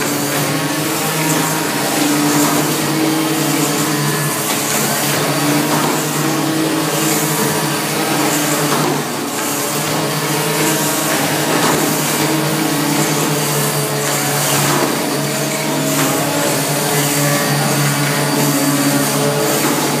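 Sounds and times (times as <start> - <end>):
cutting machine whirring: 0.0 - 20.0.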